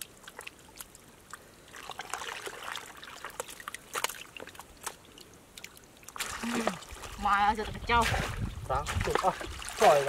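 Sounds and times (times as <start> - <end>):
hands sloshing through muddy water: 0.0 - 10.0
water dripping: 0.0 - 10.0.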